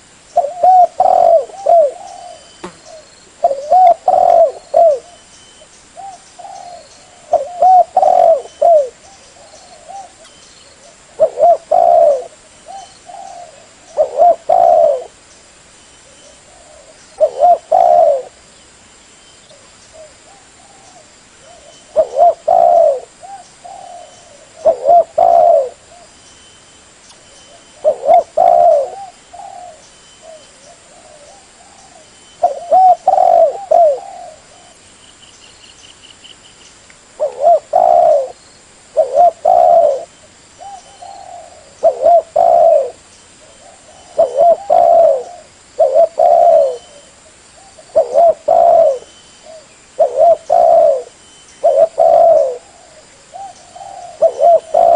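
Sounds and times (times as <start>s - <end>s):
dove cooing: 0.0s - 5.2s, 6.0s - 15.2s, 16.0s - 18.4s, 19.5s - 26.1s, 27.5s - 34.8s, 37.2s - 54.9s.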